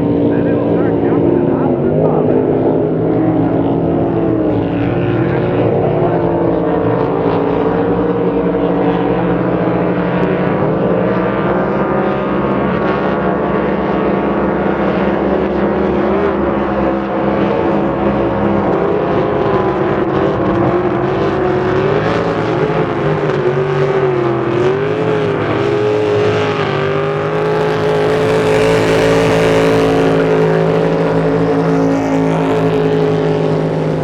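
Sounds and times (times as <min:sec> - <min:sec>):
boat engines at low revs: 0:00.0 - 0:34.0.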